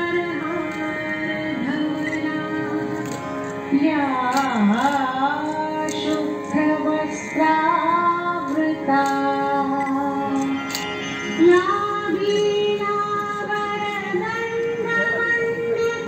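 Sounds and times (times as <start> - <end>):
woman singing devotional song: 0.0 - 16.0.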